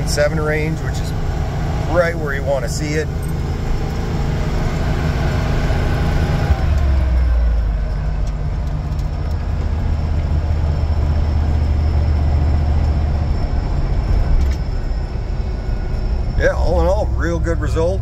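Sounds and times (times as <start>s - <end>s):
car engine droning: 0.0s - 18.0s
road noise: 0.0s - 18.0s.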